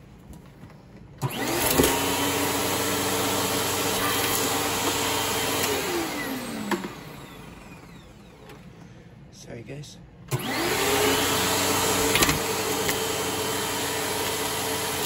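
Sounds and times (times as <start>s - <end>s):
vacuum cleaner motor whining: 1.2s - 8.8s, 10.3s - 15.0s.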